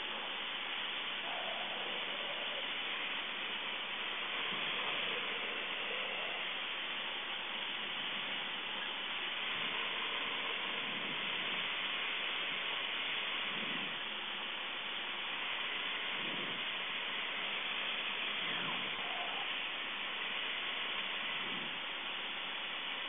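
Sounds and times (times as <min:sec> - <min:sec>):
aircraft cabin engine hiss: 0:00.0 - 0:23.0.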